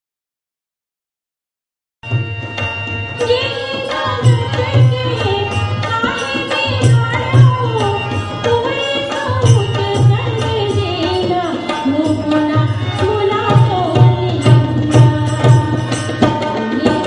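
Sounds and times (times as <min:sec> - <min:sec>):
woman singing: 0:03.2 - 0:17.0.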